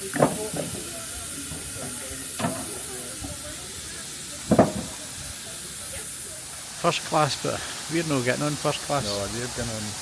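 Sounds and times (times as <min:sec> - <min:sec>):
steam hissing from locomotive: 0:00.0 - 0:10.0.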